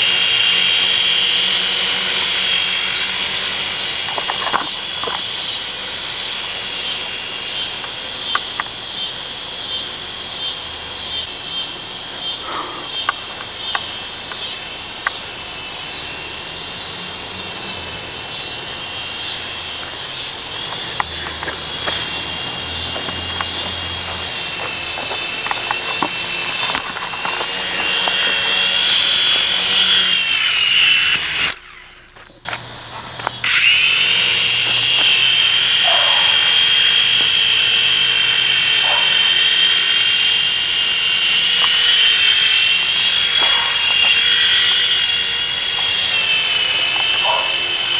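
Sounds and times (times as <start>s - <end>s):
toy helicopter motors whining: 0.0s - 47.9s
rotors fluttering: 0.1s - 47.9s.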